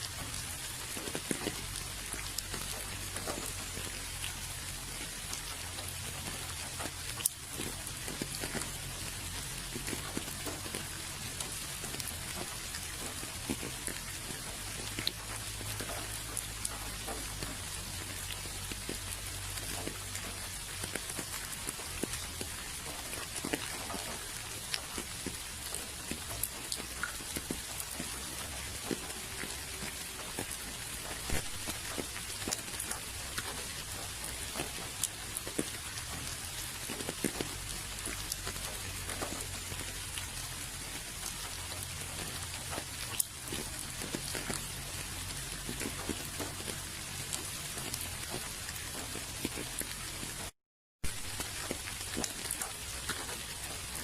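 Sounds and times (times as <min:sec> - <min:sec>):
steady rain with ticking drops: 0:00.0 - 0:54.0.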